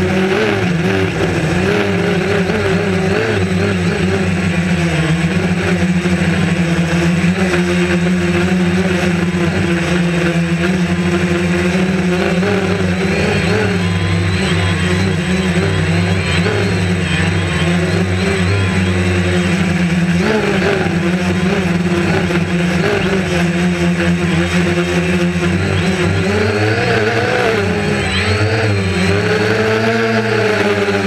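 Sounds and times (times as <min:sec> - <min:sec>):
drone propellers buzzing: 0:00.0 - 0:31.0.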